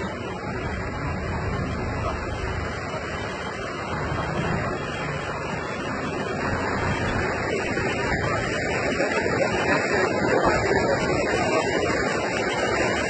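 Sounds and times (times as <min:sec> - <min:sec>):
rainwater flowing across road: 0:00.0 - 0:13.0.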